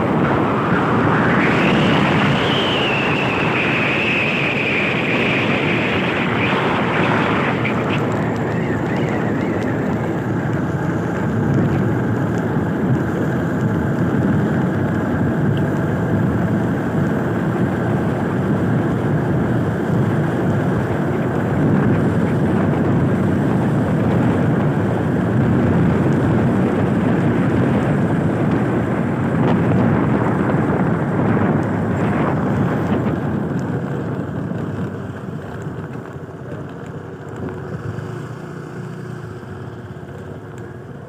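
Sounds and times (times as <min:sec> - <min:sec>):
wind buffeting microphone: 0:00.0 - 0:39.1
vehicle engine running: 0:00.0 - 0:41.0.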